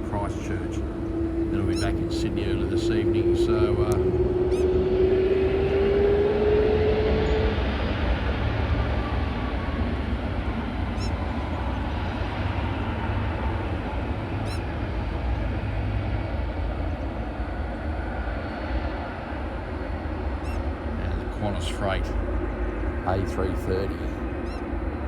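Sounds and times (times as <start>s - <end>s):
jet engines roaring: 0.0s - 25.0s
thin rising whine: 0.0s - 25.0s.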